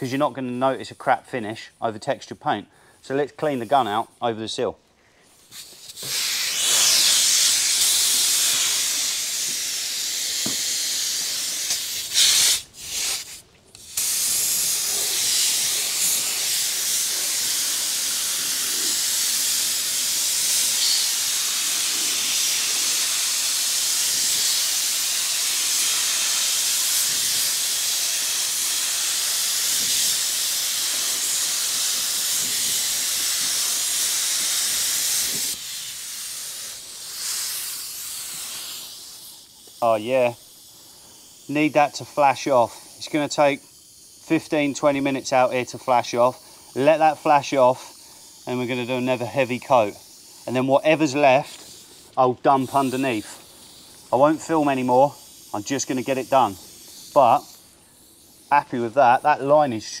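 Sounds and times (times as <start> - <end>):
paint spray gun hissing: 2.8 - 4.3, 5.2 - 60.0.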